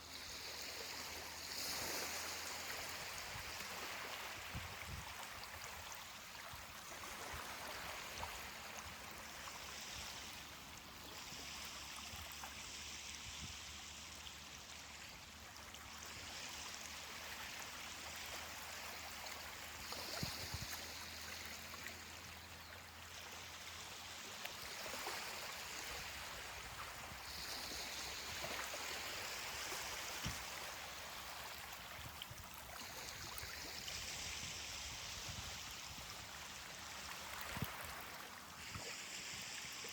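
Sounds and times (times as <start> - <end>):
small waves washing onto beach: 0.0 - 39.9.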